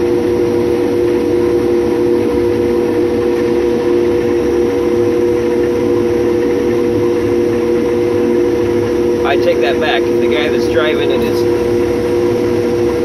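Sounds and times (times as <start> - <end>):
combine harvester running: 0.0 - 12.4.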